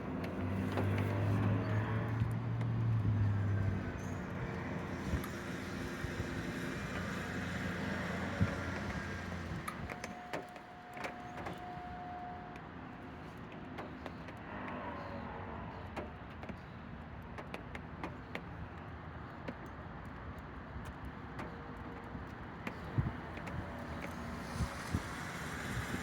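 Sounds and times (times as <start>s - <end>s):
traffic noise: 0.0s - 26.0s.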